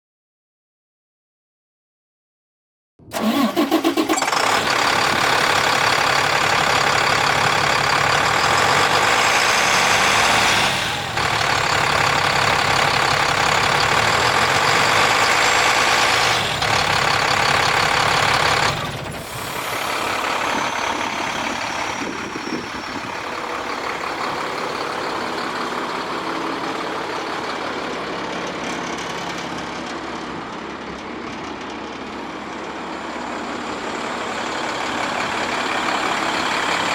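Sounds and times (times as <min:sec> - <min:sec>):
diesel engine cranking: 0:03.0 - 0:36.9
diesel engine running: 0:03.0 - 0:36.9
diesel engine idling: 0:03.1 - 0:36.9.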